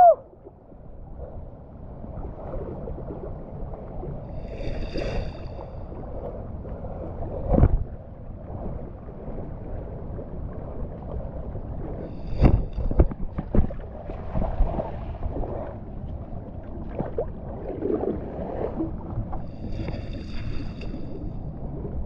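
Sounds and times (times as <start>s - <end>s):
shallow shore water washing: 2.0s - 22.0s.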